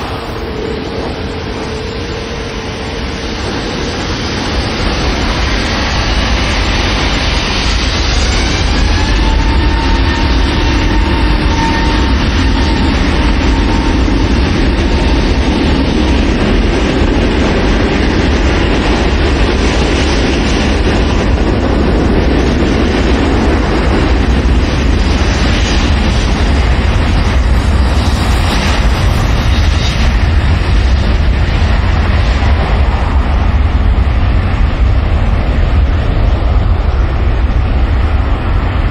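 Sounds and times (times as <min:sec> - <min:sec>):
jet engine whine: 0:00.0 - 0:38.9
jet engines deep rumble: 0:00.0 - 0:38.9.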